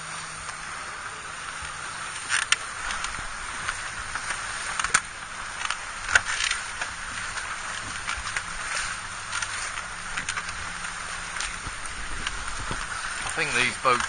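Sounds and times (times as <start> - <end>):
water rushing against a hull: 0.0 - 14.0
sharp water slaps on hull: 2.2 - 14.0.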